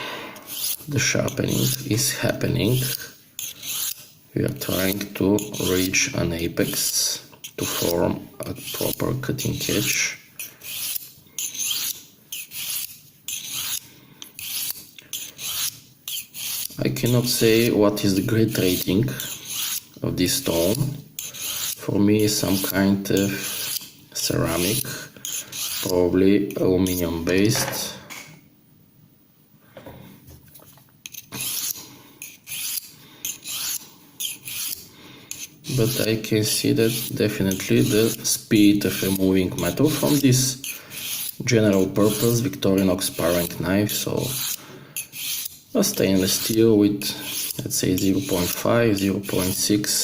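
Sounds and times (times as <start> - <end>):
knife scraping on ceramic rod: 0.4 - 27.2, 31.0 - 50.0.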